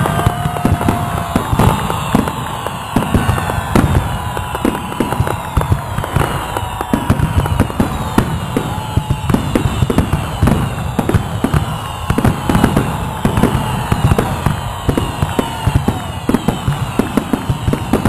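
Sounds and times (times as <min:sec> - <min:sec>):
fireworks bangs and crackles: 0:00.0 - 0:18.0
fireworks whistling: 0:00.0 - 0:18.0.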